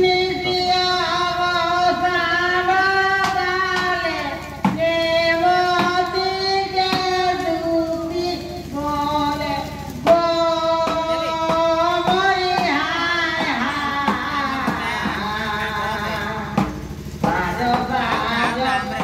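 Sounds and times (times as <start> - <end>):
high voice singing folk song: 0.0 - 19.0
drum strikes: 0.3 - 19.0.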